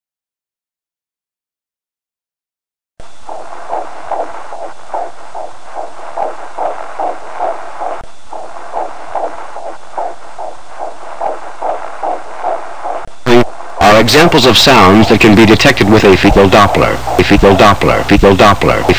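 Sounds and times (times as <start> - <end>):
steady hiss: 3.0 - 18.9
fetal heartbeat on doppler: 3.2 - 18.9.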